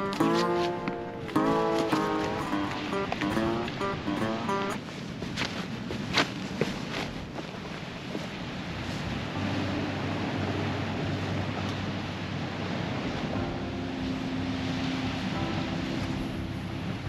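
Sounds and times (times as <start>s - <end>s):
low held music tones: 0.0s - 5.2s, 8.4s - 17.0s
surf washing over rocks: 0.0s - 17.0s
wind buffeting microphone: 0.0s - 17.0s.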